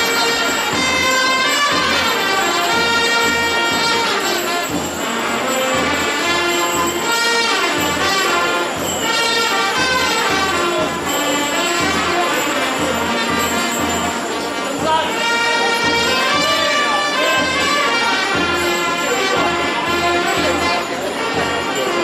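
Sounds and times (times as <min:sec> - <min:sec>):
band music with brass notes: 0:00.0 - 0:22.0.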